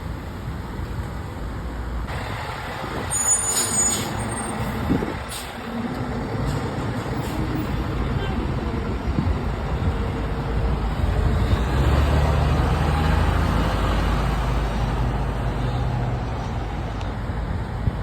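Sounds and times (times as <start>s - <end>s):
fire truck engine driving by: 0.0s - 18.0s
road noise: 0.0s - 18.0s.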